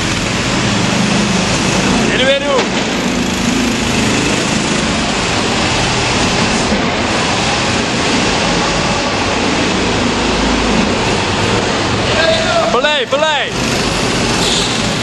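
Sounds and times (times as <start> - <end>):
go-kart engines running: 0.0 - 15.0
loud rushing noise: 0.0 - 15.0.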